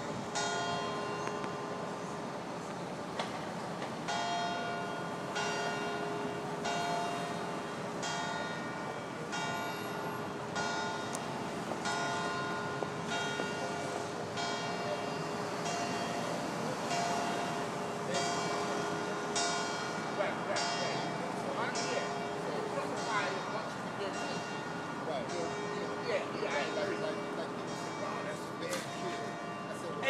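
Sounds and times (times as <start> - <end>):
church bell tolling: 0.0 - 2.5, 4.0 - 30.0.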